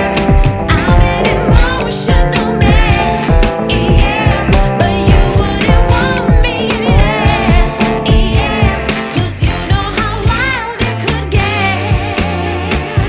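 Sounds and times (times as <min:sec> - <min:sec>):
song with singer over beat: 0:00.0 - 0:13.0.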